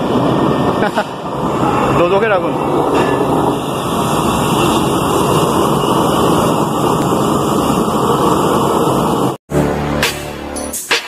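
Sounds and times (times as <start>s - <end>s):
furnace flames rushing: 0.0s - 9.4s.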